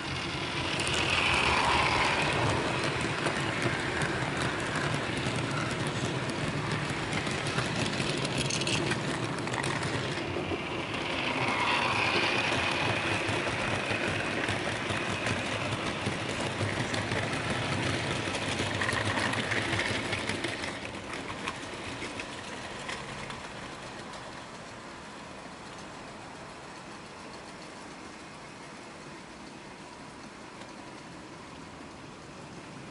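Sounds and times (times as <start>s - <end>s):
model train wheels clattering: 0.0s - 32.0s.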